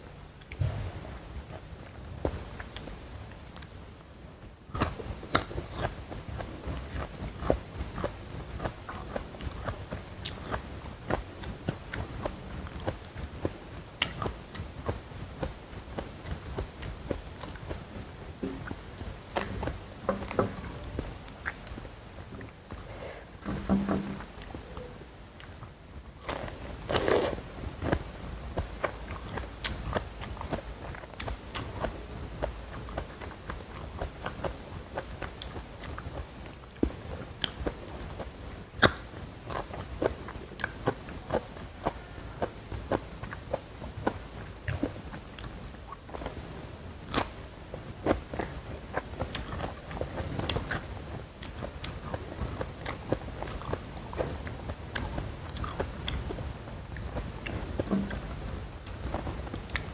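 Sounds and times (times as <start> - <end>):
chewing crunchy food: 4.7 - 59.9.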